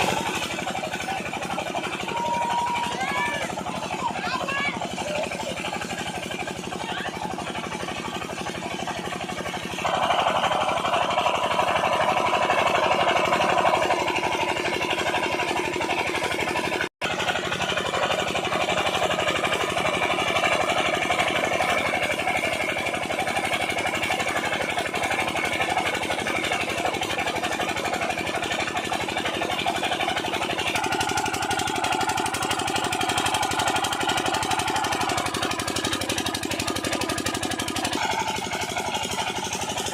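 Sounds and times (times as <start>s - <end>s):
diesel pump engine running: 0.0s - 39.9s.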